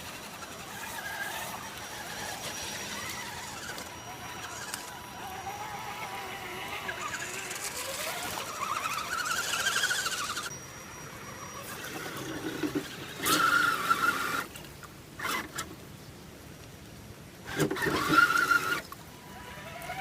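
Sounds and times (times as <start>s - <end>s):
toy truck motor whining: 0.0s - 14.5s, 15.2s - 15.7s, 17.5s - 20.0s.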